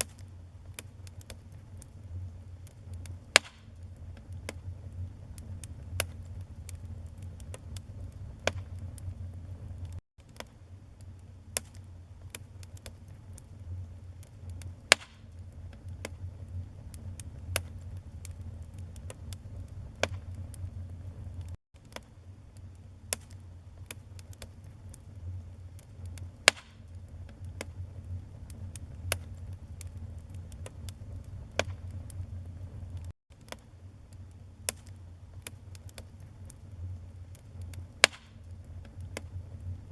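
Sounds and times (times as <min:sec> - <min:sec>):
fire flames rumbling: 0:00.0 - 0:10.0, 0:10.7 - 0:21.6, 0:22.2 - 0:33.1, 0:33.8 - 0:39.9
logs crackling and popping: 0:00.0 - 0:39.9.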